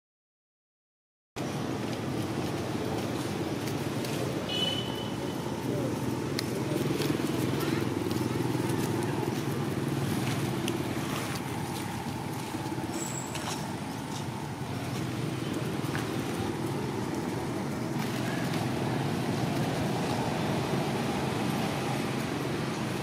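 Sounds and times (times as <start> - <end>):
motorbike engines passing: 1.4 - 23.0
road traffic noise: 1.4 - 23.0.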